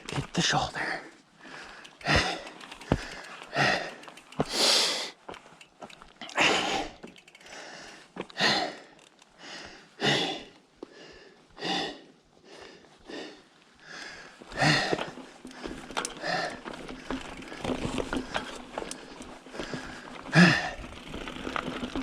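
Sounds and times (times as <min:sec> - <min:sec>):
heavy laboured breathing: 0:00.8 - 0:05.2, 0:06.2 - 0:21.2.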